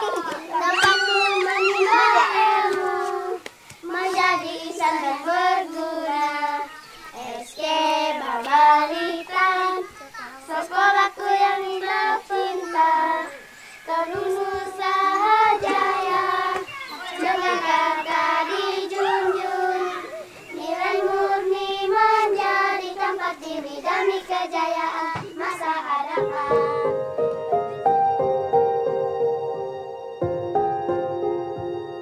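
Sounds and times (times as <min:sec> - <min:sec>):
child singing: 0:00.0 - 0:27.0.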